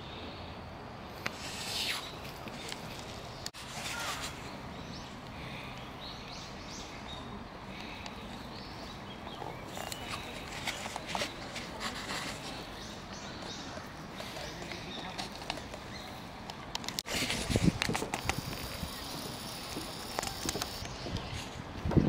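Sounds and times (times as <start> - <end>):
low outdoor background noise: 0.0 - 22.0.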